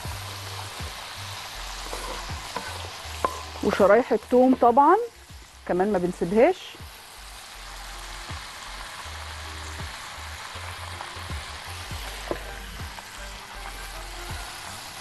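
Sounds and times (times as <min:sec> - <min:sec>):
fat sizzling in a hot wok: 0:00.0 - 0:15.0.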